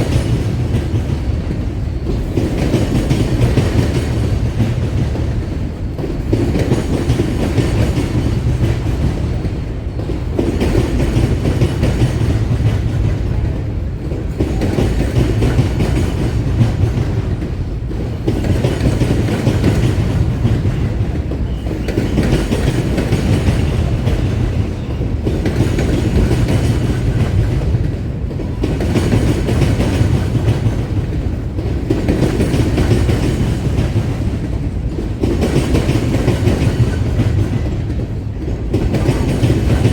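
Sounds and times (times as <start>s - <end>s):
railroad cars rumbling on rails: 0.0s - 39.9s.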